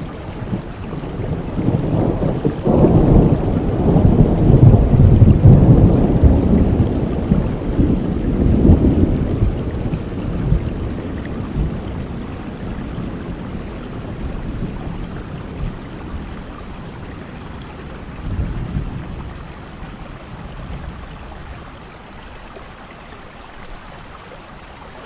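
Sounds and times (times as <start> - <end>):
thunder rumbling: 0.0 - 21.7
steady rain: 0.0 - 25.0.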